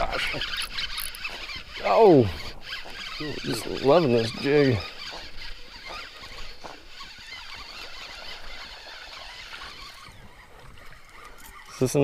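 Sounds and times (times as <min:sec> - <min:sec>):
fishing reel rasping: 0:00.0 - 0:12.0
light reel clicks: 0:00.0 - 0:12.0.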